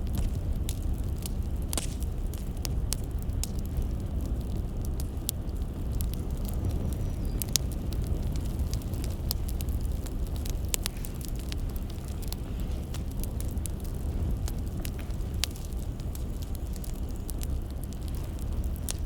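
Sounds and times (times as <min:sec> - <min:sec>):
firewood crackling and popping: 0:00.0 - 0:19.0
steady low rumble: 0:00.0 - 0:19.0.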